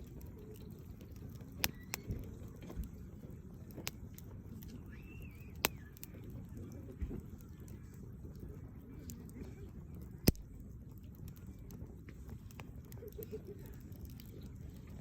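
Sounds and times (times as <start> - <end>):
logs popping: 0.0 - 15.0
low steady rumble: 0.0 - 15.0
wood fire crackling: 0.0 - 15.0.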